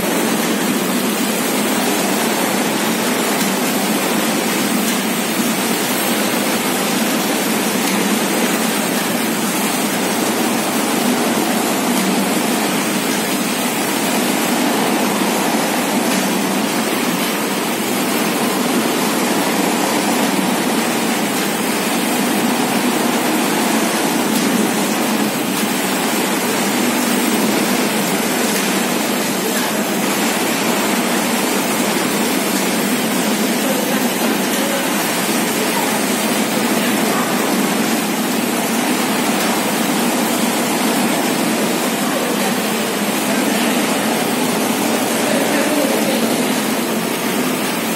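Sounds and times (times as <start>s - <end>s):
production machine running: 0.0s - 47.9s.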